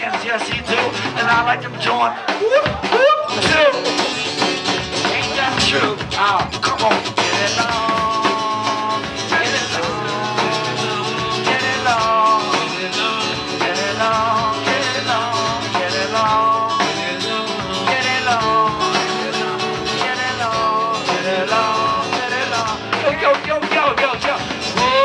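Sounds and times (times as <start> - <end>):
acoustic guitar: 0.0 - 25.0
drum kit playing: 0.0 - 25.0.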